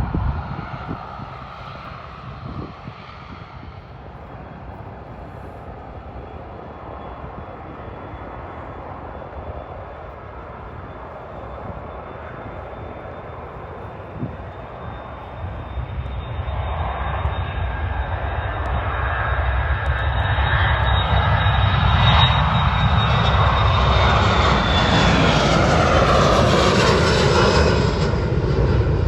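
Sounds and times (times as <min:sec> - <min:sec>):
aircraft engines rushing: 0:00.0 - 0:29.0.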